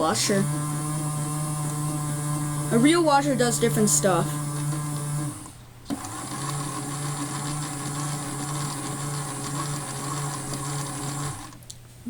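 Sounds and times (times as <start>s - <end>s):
toy washing machine motor humming: 0.0s - 11.6s.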